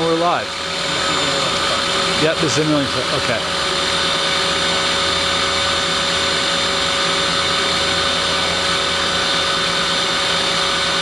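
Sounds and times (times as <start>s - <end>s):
machine whirring: 0.0s - 11.0s.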